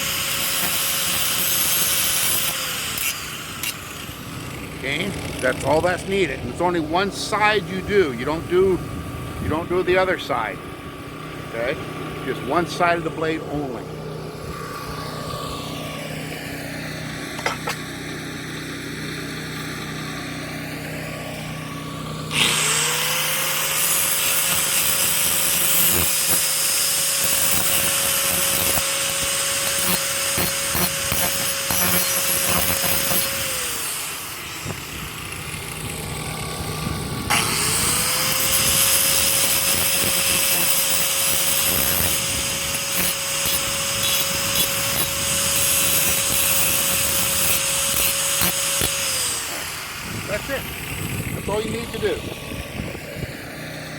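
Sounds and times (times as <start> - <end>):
angle grinder grinding metal: 0.0 - 8.8, 11.5 - 18.0, 21.2 - 53.9.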